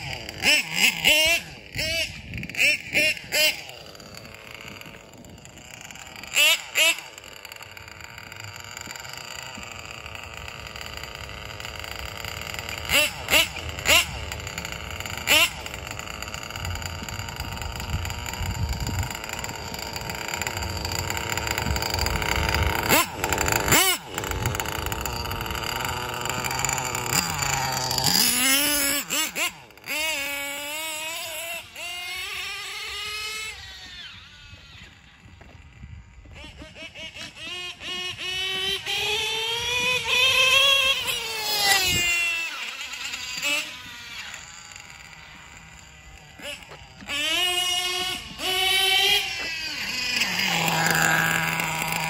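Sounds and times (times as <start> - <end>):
nitro engine revving: 0.0 - 52.0.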